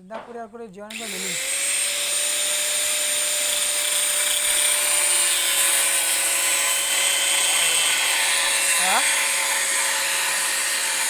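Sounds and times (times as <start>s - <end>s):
electric power tool running: 0.9s - 11.0s.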